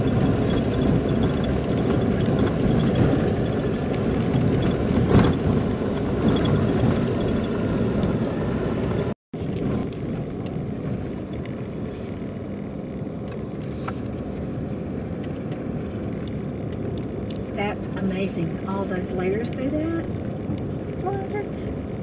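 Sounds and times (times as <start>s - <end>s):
vehicle rumbling on dirt road: 0.0s - 22.0s.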